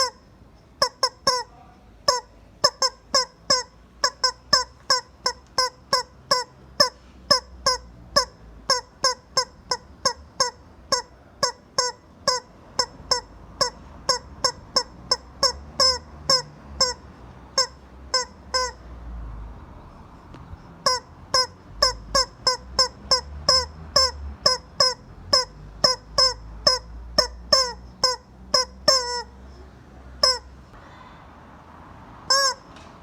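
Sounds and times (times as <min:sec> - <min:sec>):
rubber chicken toy squeaking: 0:00.0 - 0:18.9, 0:20.4 - 0:30.8, 0:32.3 - 0:32.8.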